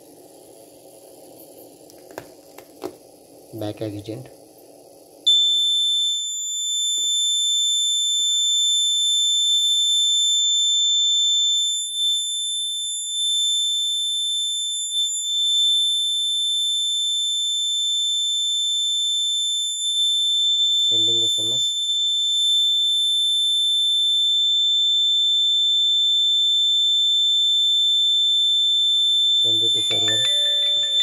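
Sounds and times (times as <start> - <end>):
piezo alarm buzzer tone: 0.0 - 31.0.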